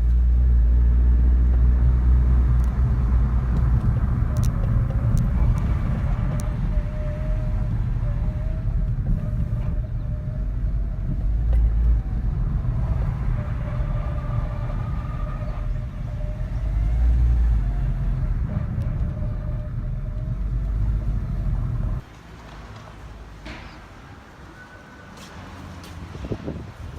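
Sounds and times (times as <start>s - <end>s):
transmission whining: 0.0s - 22.1s
car engine: 0.0s - 22.5s
road rumble: 0.0s - 26.9s.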